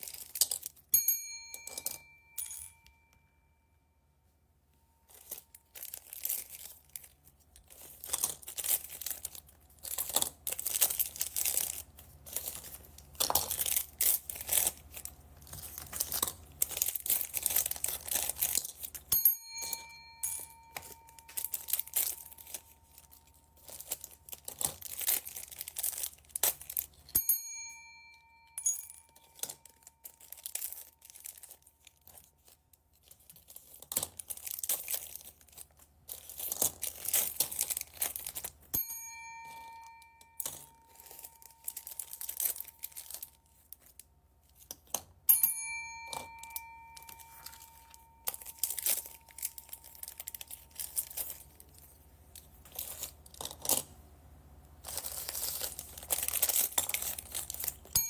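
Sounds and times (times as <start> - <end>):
plastic bags crinkling: 0.0 - 0.9, 5.0 - 19.1, 19.8 - 27.1, 29.0 - 45.0, 46.1 - 54.1, 54.7 - 58.0.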